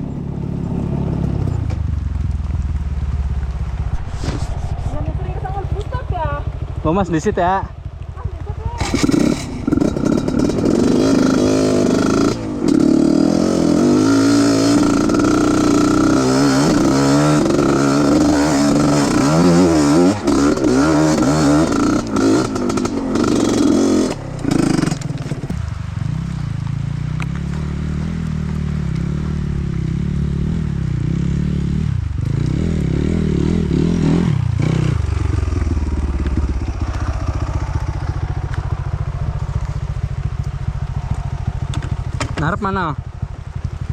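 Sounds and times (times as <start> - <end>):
trail motorcycle engine revving: 0.0 - 43.9.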